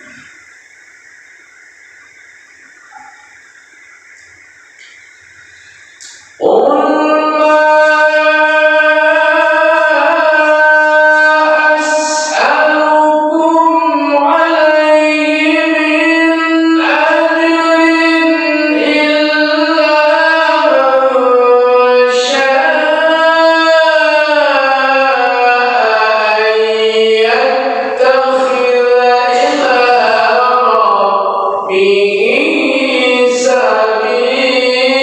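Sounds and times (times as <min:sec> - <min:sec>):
person reciting in melodic chant: 0:00.0 - 0:00.3, 0:05.5 - 0:35.0.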